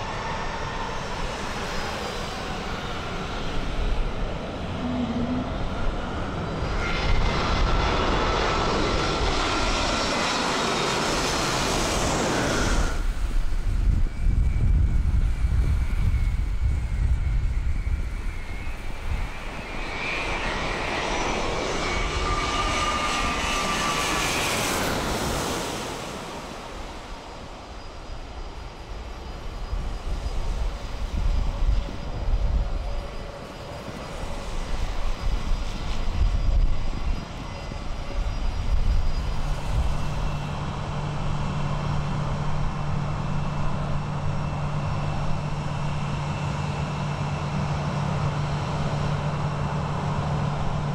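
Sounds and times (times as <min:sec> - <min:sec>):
jet engines whining overhead: 0:00.0 - 0:50.9.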